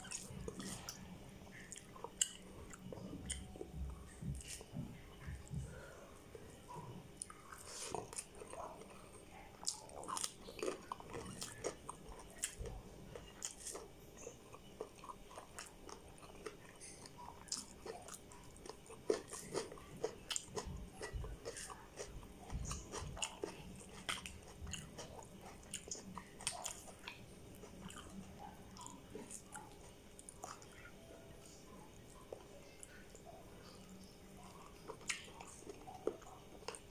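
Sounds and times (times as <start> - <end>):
person chewing with wet clicks: 0.0 - 36.9.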